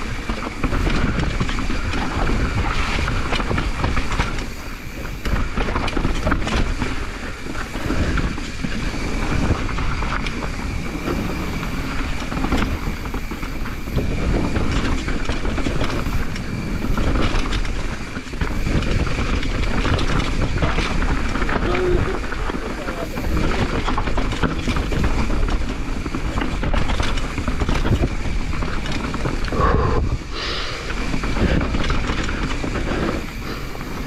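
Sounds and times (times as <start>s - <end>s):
bike frame rattling: 0.0s - 34.0s
bike tyres on dirt and rocks: 0.0s - 34.0s.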